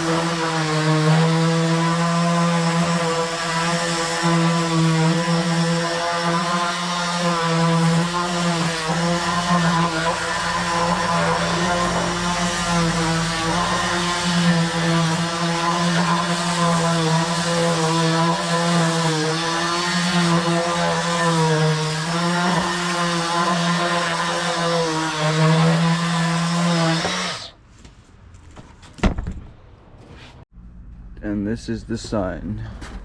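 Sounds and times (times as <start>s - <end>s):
dust extractor running: 0.0s - 27.5s
electric sander running: 0.0s - 27.5s.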